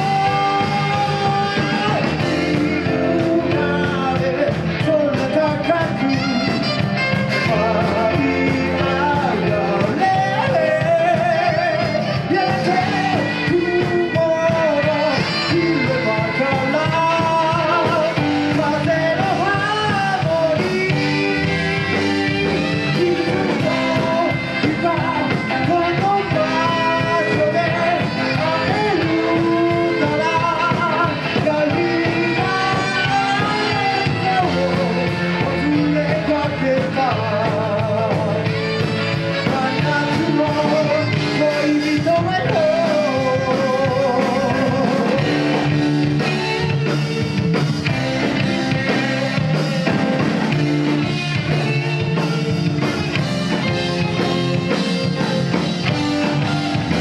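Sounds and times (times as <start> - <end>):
guitar: 0.0 - 57.0
live rock band playing: 0.0 - 57.0
person singing: 0.0 - 57.0.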